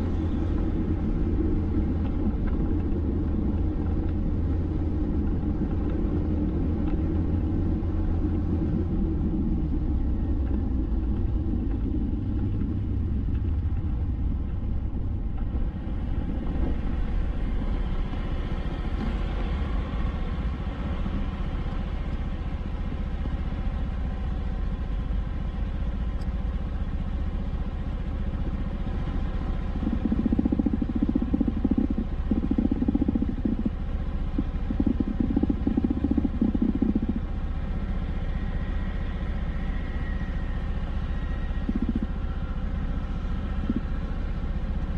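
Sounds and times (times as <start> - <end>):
vehicle engine and road noise: 0.0 - 44.9.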